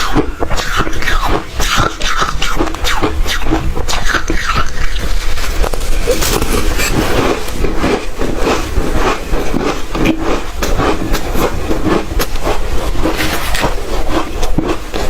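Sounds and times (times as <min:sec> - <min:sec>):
chewing ice crunching: 0:00.0 - 0:15.0.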